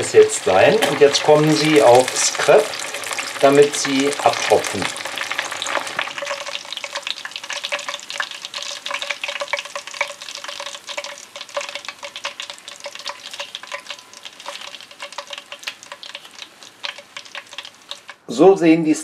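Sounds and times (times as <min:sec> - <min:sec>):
hot oil crackling and sizzling: 0:00.0 - 0:18.4.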